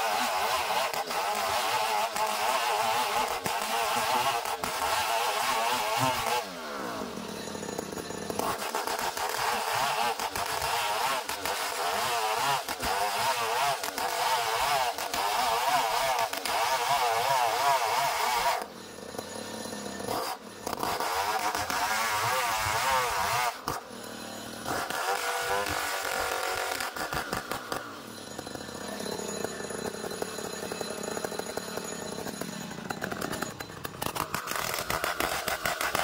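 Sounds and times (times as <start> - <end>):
sawmill engine cutting wood: 0.0 - 36.0.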